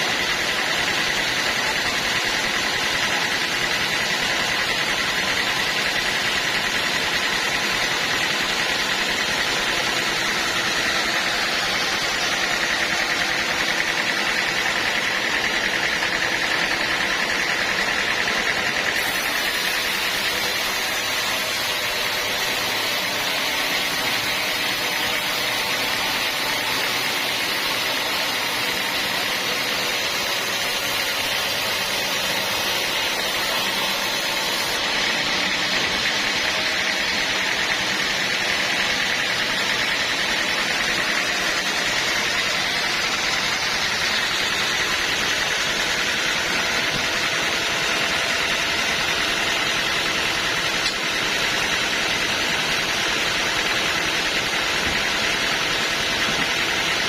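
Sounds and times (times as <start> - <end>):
high machine whine: 0.0 - 57.0
sawmill cutting log: 0.0 - 57.0.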